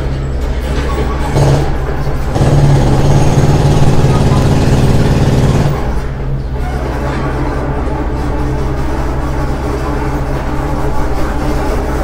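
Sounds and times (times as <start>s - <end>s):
construction machinery engine rumbling: 0.0s - 12.0s.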